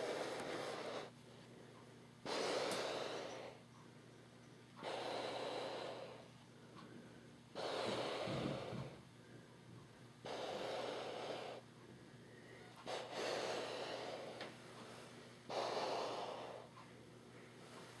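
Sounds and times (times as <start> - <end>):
person breathing: 0.0 - 3.6, 4.8 - 9.6, 10.3 - 18.0.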